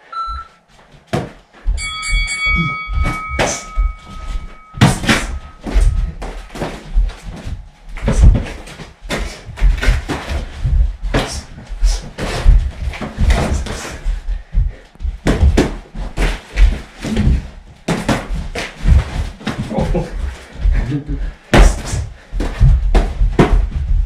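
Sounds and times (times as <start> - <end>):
feet stamping on floor: 0.4 - 2.0, 2.6 - 24.0.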